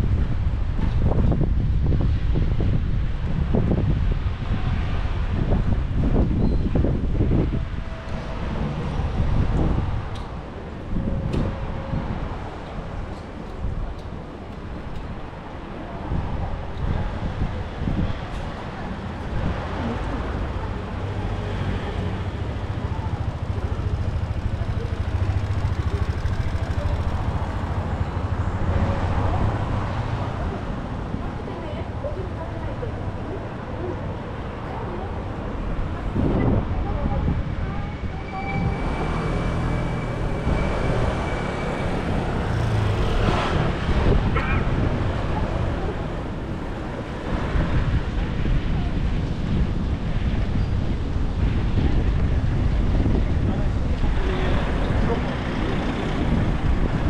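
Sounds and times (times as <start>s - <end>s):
street background noise: 0.0s - 57.0s
vehicle engine rumbling: 0.0s - 57.0s.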